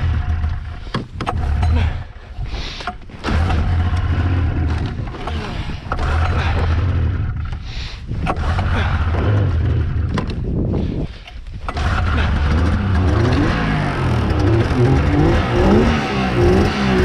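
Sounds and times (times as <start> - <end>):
two-stroke engine misfiring: 0.0 - 2.2, 2.8 - 10.4, 11.3 - 17.0.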